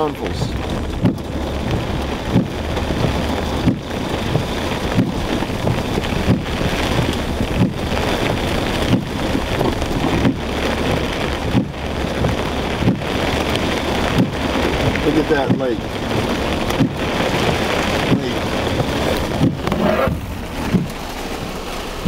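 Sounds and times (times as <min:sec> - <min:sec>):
heavy rain on a car: 0:00.0 - 0:22.0
low car hum: 0:00.0 - 0:22.0
windshield wipers sweeping: 0:00.0 - 0:22.0.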